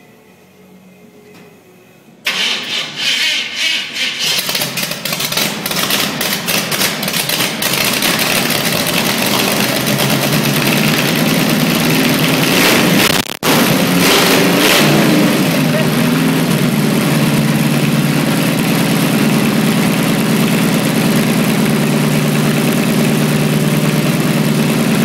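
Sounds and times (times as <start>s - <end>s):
engine starting and running: 2.2s - 25.0s.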